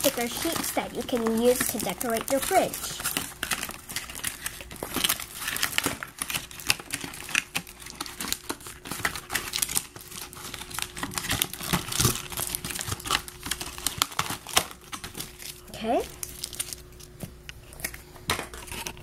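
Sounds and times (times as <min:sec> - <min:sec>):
toy packaging crinkling: 0:00.0 - 0:19.0.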